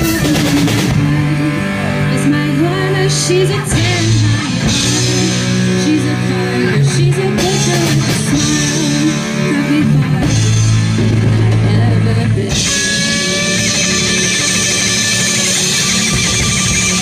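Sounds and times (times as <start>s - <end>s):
woman singing: 0.0s - 15.0s
drums: 0.0s - 17.0s
electric bass: 0.0s - 17.0s
electric guitar: 0.0s - 17.0s.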